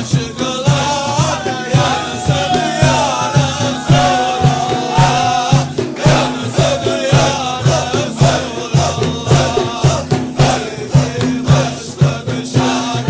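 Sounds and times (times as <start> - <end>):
voices chanting: 0.0 - 13.0
steady low beat: 0.1 - 13.0.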